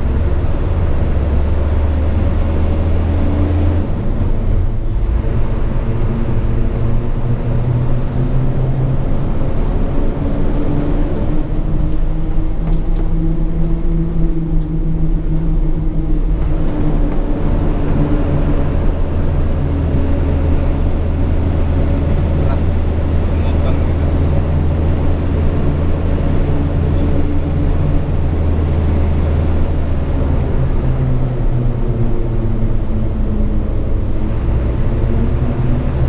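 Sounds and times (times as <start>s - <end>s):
truck diesel engine running: 0.0s - 36.0s.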